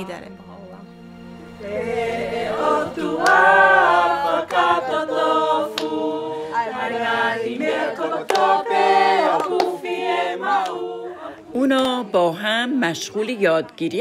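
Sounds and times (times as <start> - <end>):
group singing unaccompanied: 1.1 - 13.6.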